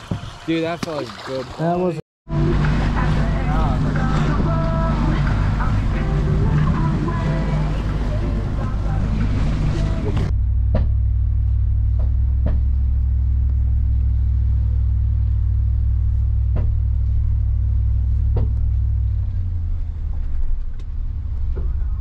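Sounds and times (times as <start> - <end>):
truck engine rumble inside cab: 2.3 - 22.0.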